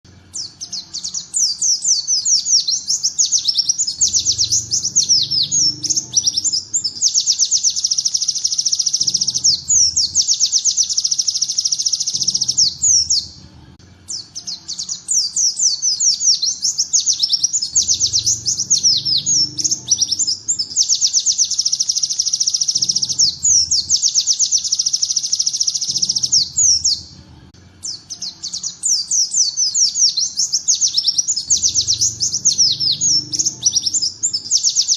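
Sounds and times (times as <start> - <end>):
songbird chattering song: 0.1 - 27.2, 27.8 - 34.9.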